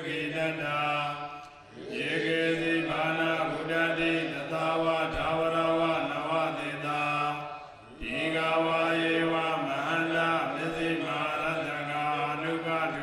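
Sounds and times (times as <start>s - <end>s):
monks chanting in monotone: 0.0s - 13.0s.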